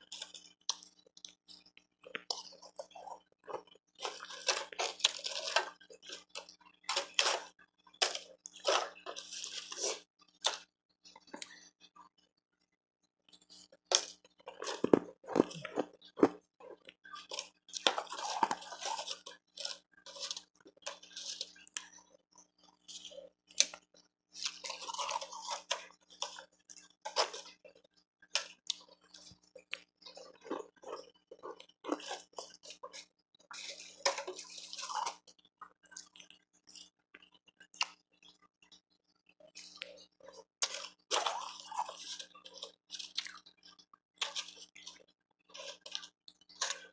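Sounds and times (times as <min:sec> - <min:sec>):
chewing and crunching ice: 0:00.0 - 0:12.3, 0:13.3 - 0:46.9.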